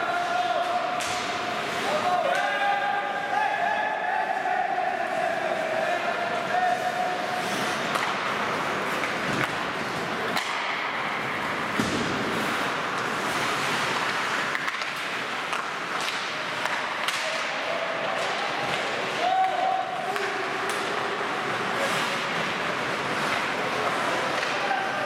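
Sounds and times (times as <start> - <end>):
hockey sticks and puck clacking: 0.0 - 25.0
skates scraping ice: 0.0 - 25.0.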